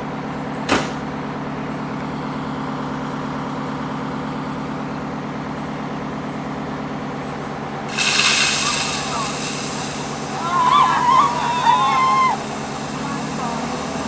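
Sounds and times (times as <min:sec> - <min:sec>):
fire engine idling: 0:00.0 - 0:14.0.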